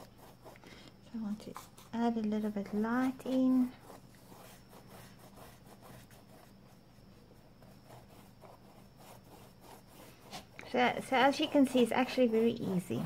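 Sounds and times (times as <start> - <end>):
low steady hum: 0.0 - 13.0
paintbrush strokes on canvas: 0.0 - 13.0.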